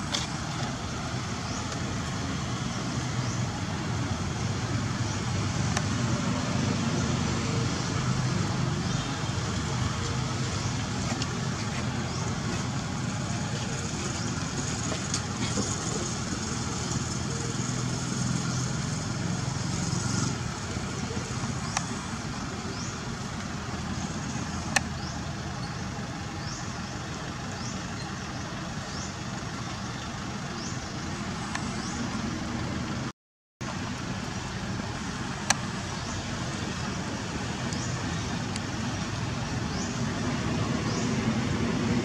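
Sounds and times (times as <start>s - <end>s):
distant low rumble and hiss: 0.0s - 42.0s.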